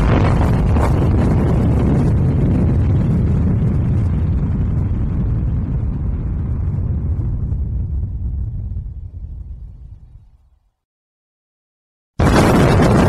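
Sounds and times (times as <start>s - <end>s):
low explosion rumble: 0.0s - 10.6s, 12.2s - 13.0s.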